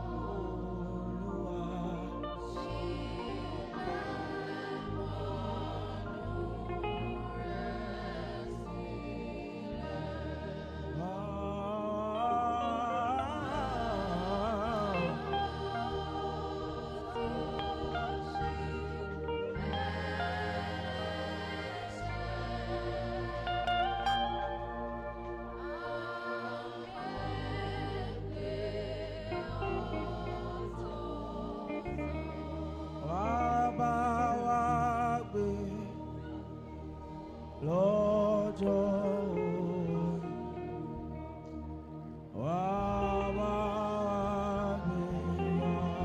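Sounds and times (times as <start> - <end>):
bass line: 0.0 - 46.0
keyboard chords: 0.0 - 46.0.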